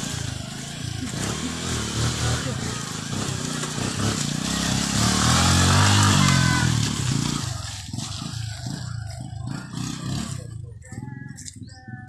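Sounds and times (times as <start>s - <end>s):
motorcycle engine passing: 0.0s - 11.2s.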